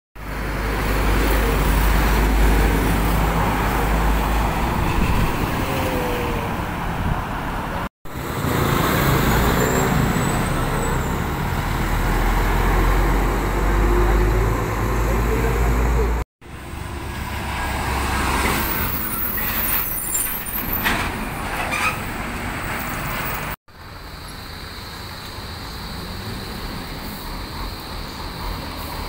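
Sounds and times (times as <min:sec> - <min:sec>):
cars and trucks passing: 0:00.2 - 0:29.0.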